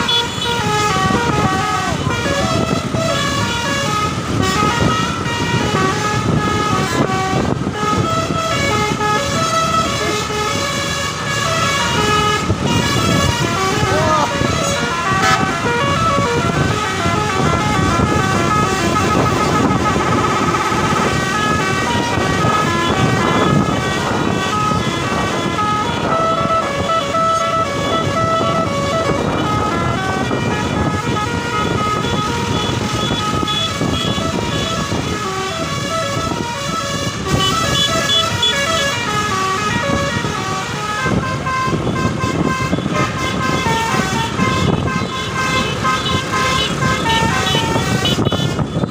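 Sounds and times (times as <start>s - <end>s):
bus horn playing a melody: 0.0s - 48.9s.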